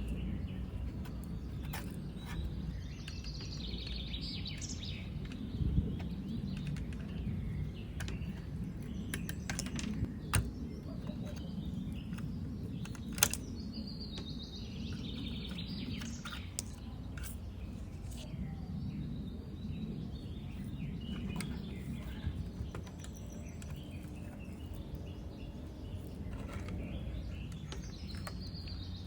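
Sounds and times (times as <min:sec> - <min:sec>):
birds chirping and warbling: 0:00.0 - 0:29.0
low background rumble: 0:00.0 - 0:29.0.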